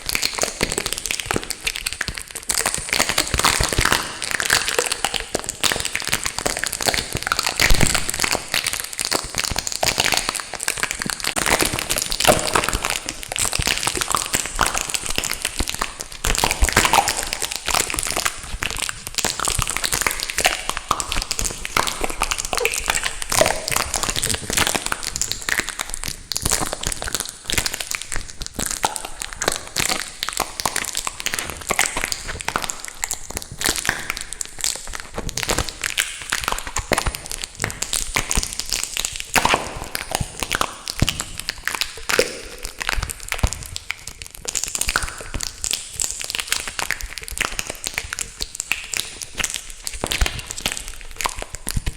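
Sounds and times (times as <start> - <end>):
tape crinkling on microphone: 0.1 - 51.9.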